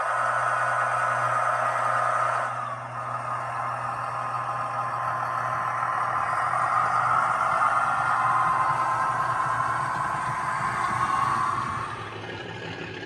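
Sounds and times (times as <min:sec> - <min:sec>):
low hum: 0:00.0 - 0:13.0
model train whine: 0:00.0 - 0:13.0.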